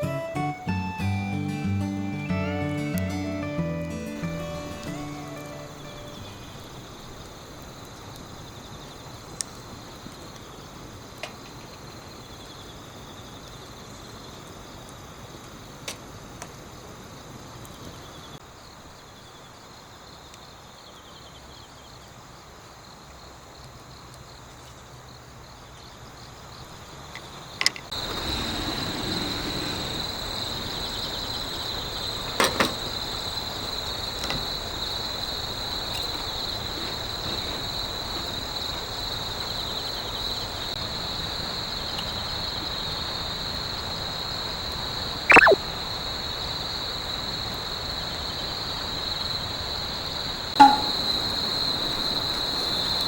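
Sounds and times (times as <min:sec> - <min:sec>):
insects chirping: 0:00.0 - 0:15.8, 0:17.1 - 0:45.6, 0:46.3 - 0:53.0.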